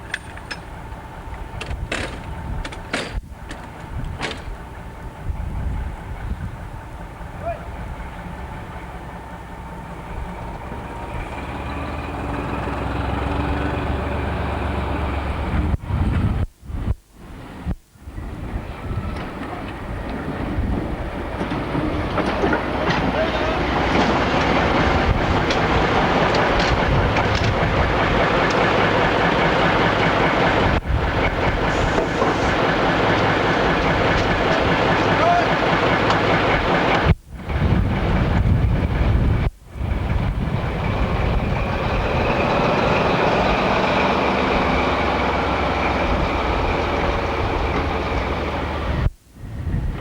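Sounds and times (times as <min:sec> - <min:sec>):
train wheels on rails: 0:00.0 - 0:16.2, 0:18.2 - 0:49.2
diesel locomotive engine rumbling: 0:00.0 - 0:50.0.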